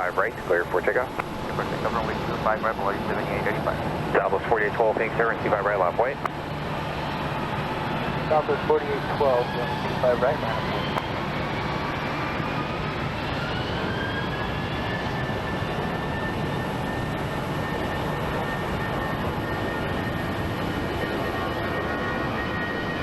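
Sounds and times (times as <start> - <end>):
jet engine at takeoff power: 0.0 - 23.0.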